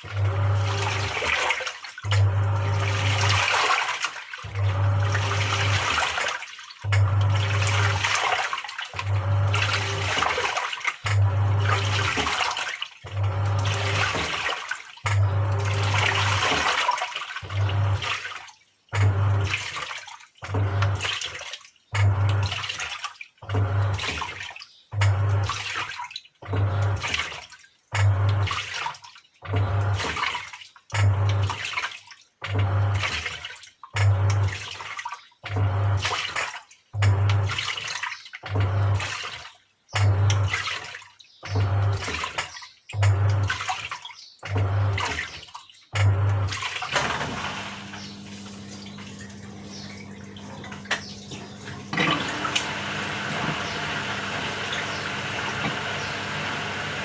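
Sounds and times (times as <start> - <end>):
washing machine motor pulsing: 0.0 - 39.4, 40.0 - 57.0
water sloshing in tub: 0.0 - 57.0.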